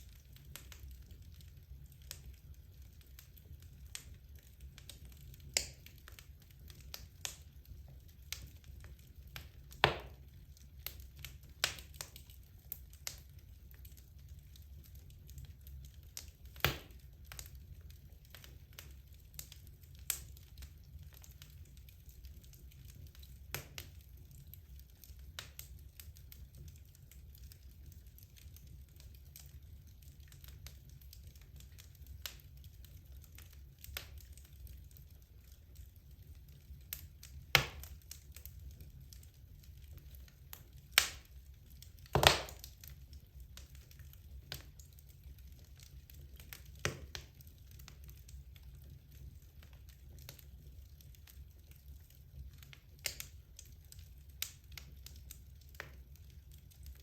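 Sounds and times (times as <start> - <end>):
logs crackling and popping in fire: 0.0 - 57.0.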